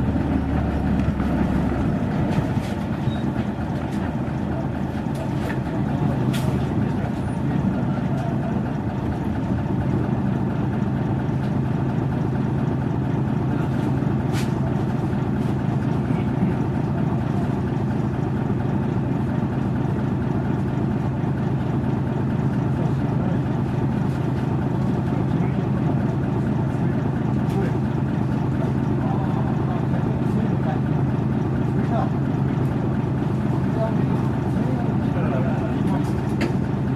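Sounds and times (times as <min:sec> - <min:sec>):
bus diesel engine drone: 0:00.0 - 0:36.9.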